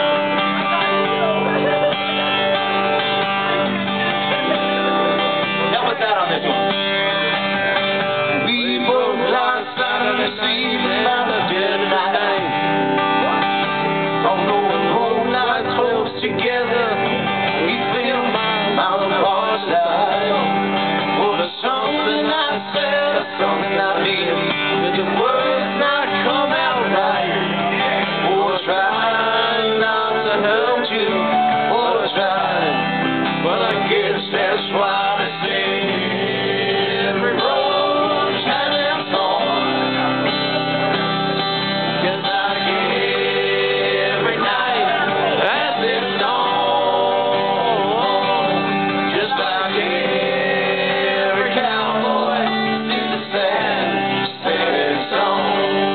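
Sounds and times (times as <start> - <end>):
live country band playing: 0.0 - 55.9
man singing: 4.4 - 7.4, 8.0 - 55.9.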